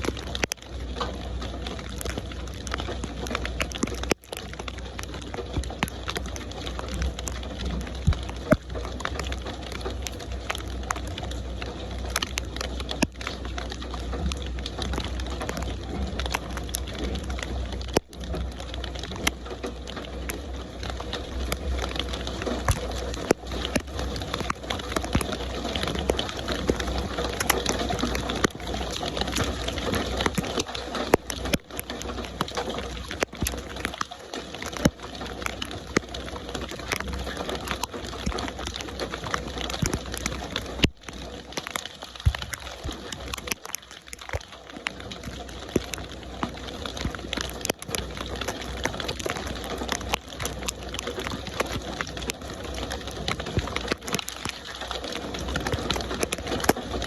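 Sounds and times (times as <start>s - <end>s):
raindrops ticking on a surface: 0.0s - 57.0s
steady rain: 0.0s - 57.0s.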